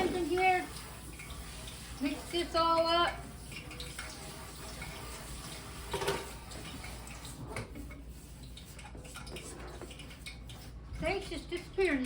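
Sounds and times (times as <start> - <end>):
hands mixing flour in a bowl: 0.0 - 12.0.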